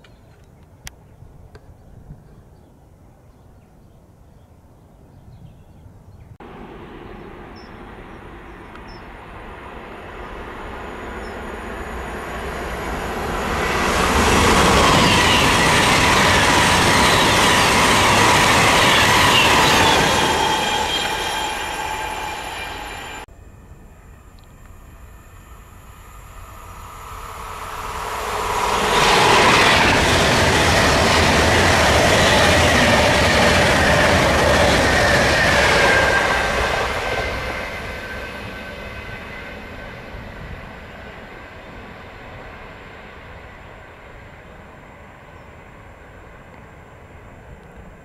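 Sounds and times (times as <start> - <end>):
train wheels on rails: 7.5 - 23.3, 24.5 - 48.0.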